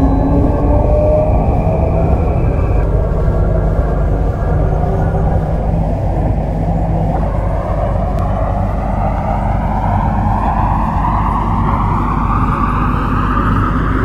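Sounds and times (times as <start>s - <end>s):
train motor whine rising: 0.0s - 14.0s
wheels rumbling on track: 0.0s - 14.0s.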